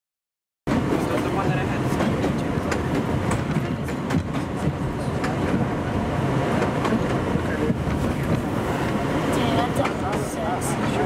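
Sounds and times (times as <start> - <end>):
subway wheels rumbling on rail: 0.7 - 11.0
track clicks and clacks: 0.7 - 11.0.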